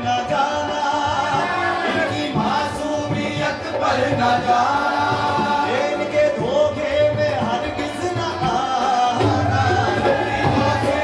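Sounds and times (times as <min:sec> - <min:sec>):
harmonium: 0:00.0 - 0:11.0
men singing: 0:00.0 - 0:11.0
tabla: 0:00.0 - 0:11.0.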